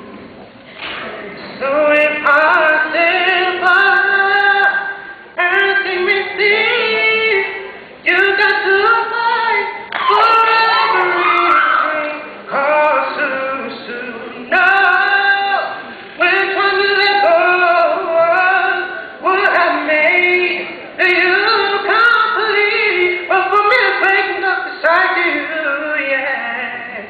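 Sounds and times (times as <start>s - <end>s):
man singing into a microphone: 1.6s - 27.0s.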